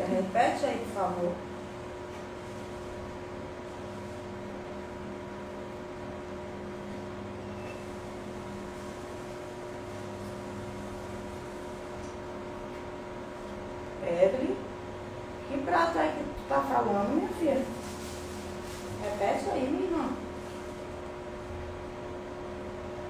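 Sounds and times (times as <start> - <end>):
room noise hum and hiss: 0.0 - 23.0.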